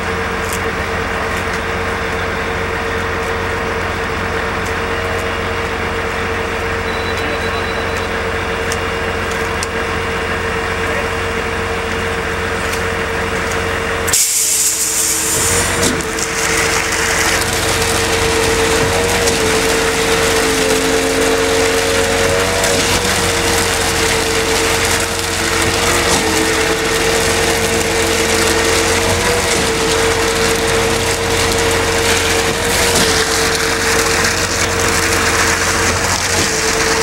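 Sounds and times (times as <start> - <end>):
concrete pump truck droning: 0.0 - 37.0.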